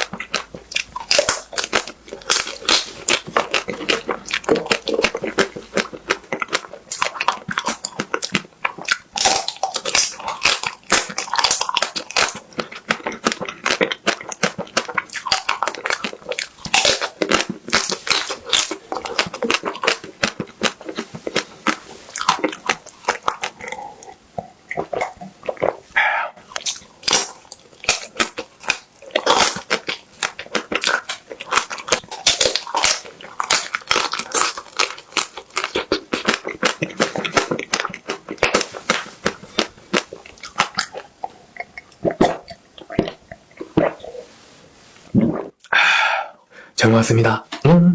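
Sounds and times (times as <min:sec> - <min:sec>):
crunching ice cream bar: 0:00.0 - 0:25.8, 0:26.4 - 0:41.2.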